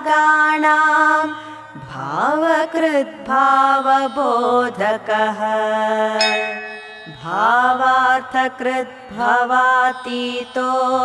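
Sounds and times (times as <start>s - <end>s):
women chanting melodically: 1.9s - 11.0s.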